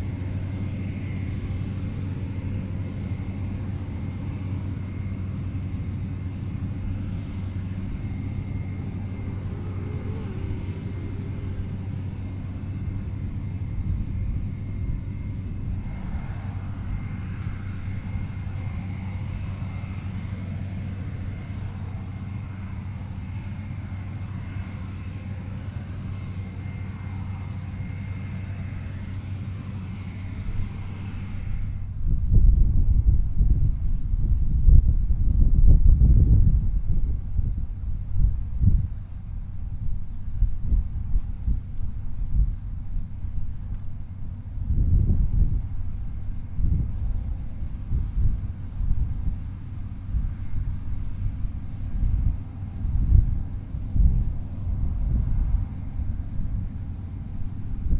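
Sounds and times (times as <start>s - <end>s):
combine harvester drone: 0.0s - 57.9s
faint high whine: 0.0s - 57.9s.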